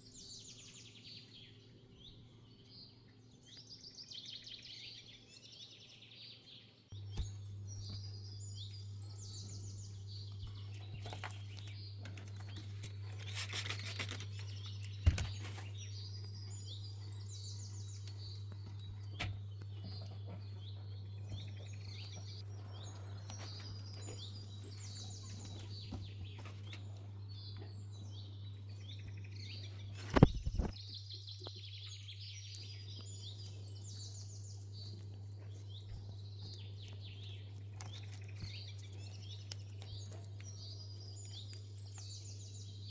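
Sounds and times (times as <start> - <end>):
small birds chirping: 0.0 - 42.9
steady low hum: 6.8 - 42.9.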